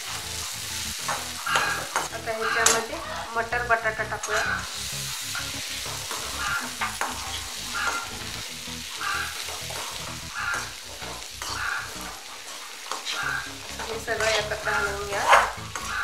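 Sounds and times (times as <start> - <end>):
metal spatula scraping a pan: 0.0 - 3.5, 4.2 - 16.0
food frying hiss: 0.0 - 16.0.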